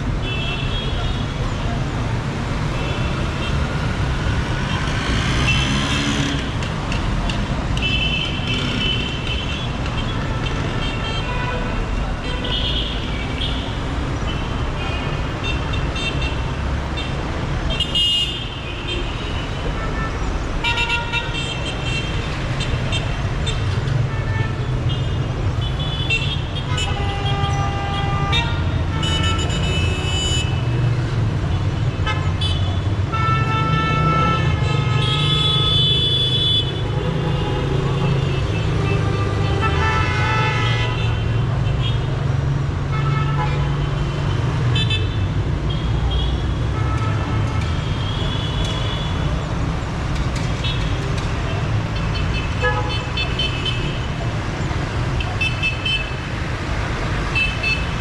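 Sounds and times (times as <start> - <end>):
traffic engines rumbling: 0.0 - 58.0.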